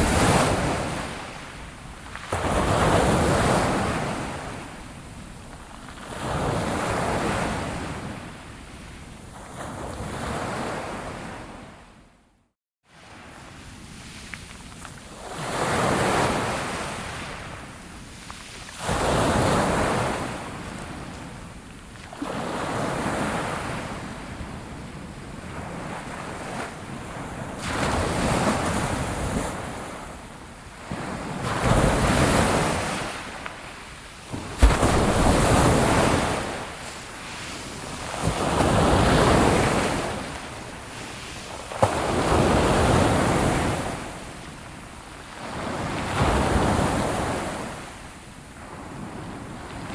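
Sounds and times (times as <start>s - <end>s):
sea waves breaking on shore: 0.0s - 5.2s, 12.9s - 49.9s.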